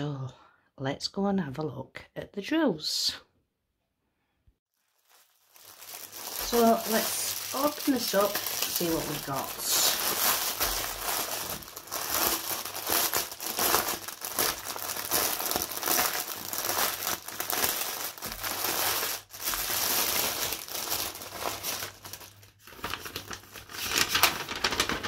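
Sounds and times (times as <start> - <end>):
plastic packaging crinkling: 4.7 - 25.0.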